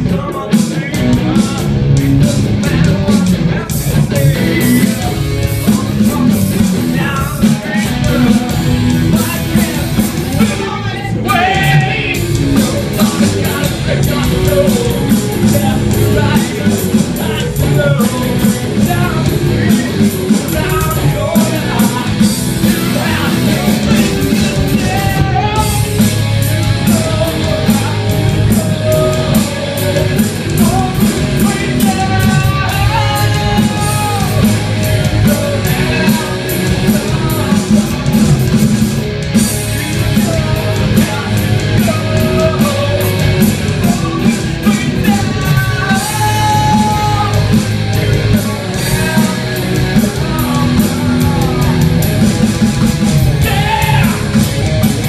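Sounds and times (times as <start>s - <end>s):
person singing: 0.0s - 54.9s
distorted electric guitars: 0.0s - 55.0s
drums: 0.0s - 55.0s.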